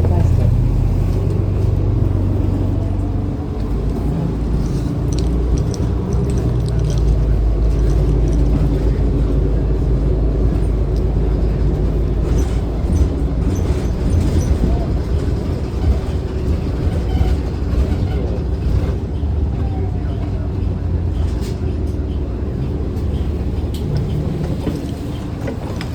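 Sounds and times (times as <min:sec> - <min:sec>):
bus engine rumble: 0:00.0 - 0:25.9.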